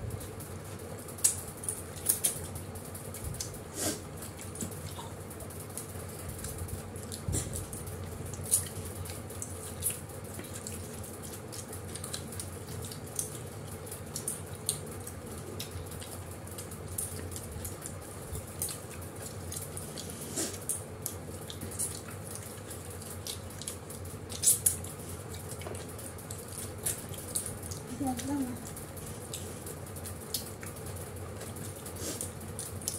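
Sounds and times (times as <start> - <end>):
steady low hum: 0.0 - 32.9
wet chewing and mouth smacks: 0.1 - 32.9.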